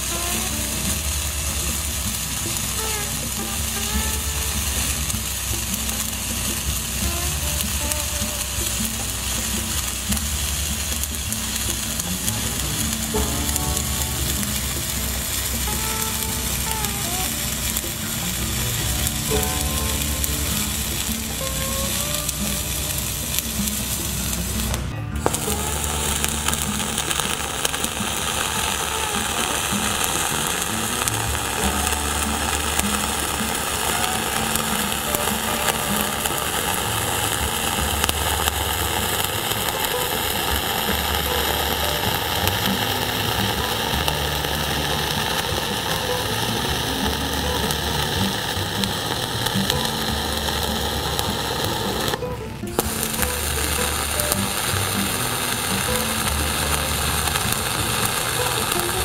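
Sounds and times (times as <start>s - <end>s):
background music with bass: 0.0s - 59.0s
welding arc crackling: 0.0s - 59.0s.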